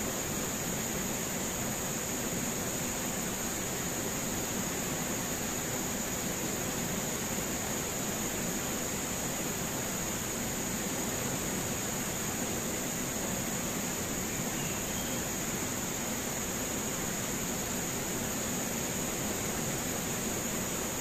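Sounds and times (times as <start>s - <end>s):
insect buzz: 0.0s - 21.0s.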